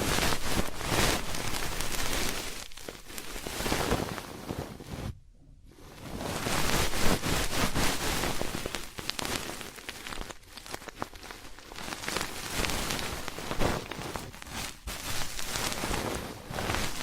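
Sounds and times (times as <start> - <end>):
ear pick scratching microphone: 0.0 - 5.2, 5.9 - 9.6, 11.9 - 17.0.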